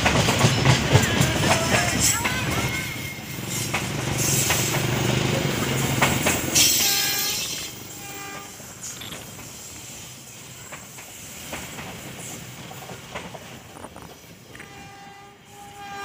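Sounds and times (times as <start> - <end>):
train wheels clattering on rails: 0.0 - 15.9.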